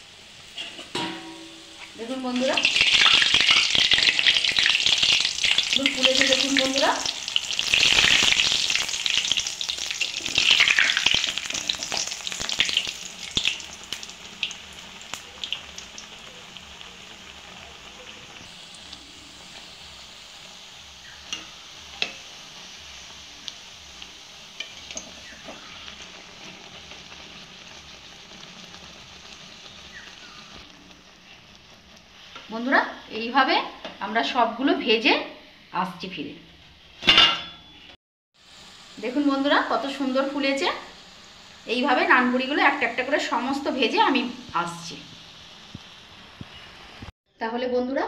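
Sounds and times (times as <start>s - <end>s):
dough sizzling in hot oil: 0.0s - 47.2s.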